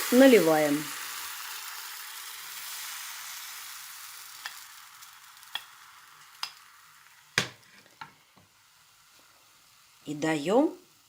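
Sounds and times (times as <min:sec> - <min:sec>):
batter sizzling in a frying pan: 0:00.0 - 0:11.0.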